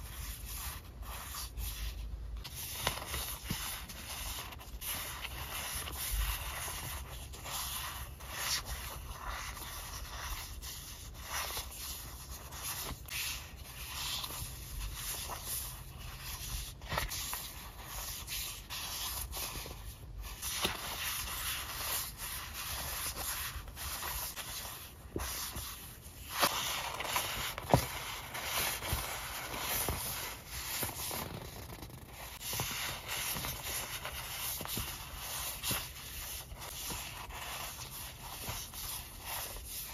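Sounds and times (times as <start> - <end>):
paper sheets rustling and sliding: 0.2 - 39.9.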